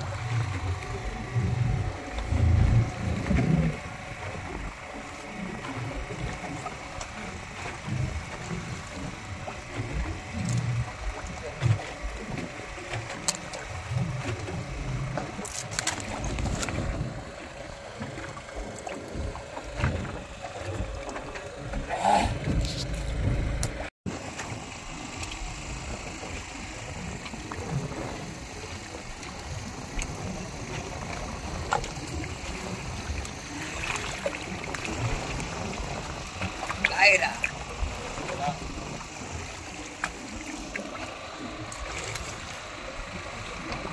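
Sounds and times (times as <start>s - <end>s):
boat engine rumble: 0.0s - 43.9s
water noise: 0.0s - 43.9s.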